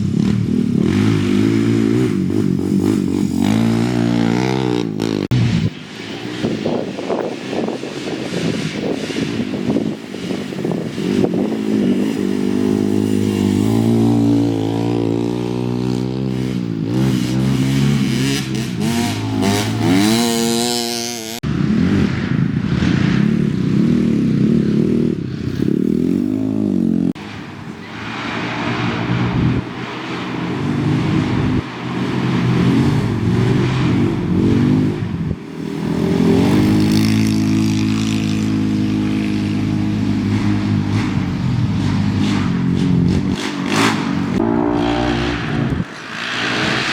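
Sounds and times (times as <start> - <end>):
race vehicle engines revving: 0.0 - 46.9.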